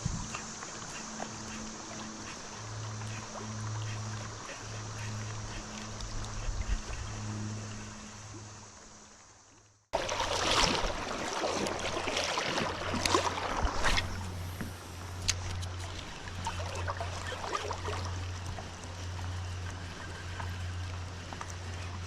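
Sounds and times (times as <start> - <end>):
steady low hum: 0.0 - 22.0
water sloshing around kayak: 0.0 - 22.0.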